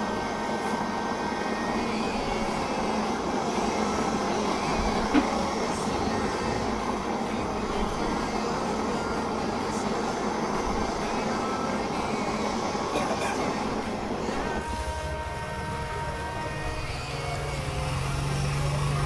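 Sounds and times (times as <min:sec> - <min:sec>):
torch flame hissing: 0:00.0 - 0:19.0.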